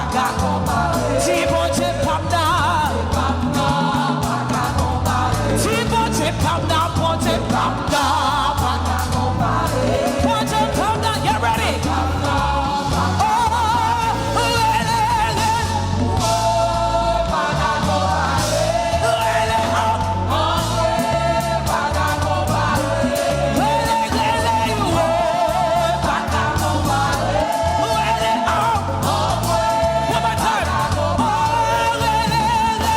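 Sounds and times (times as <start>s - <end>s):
bass: 0.0s - 32.9s
drums: 0.0s - 32.9s
voices singing: 0.0s - 32.9s.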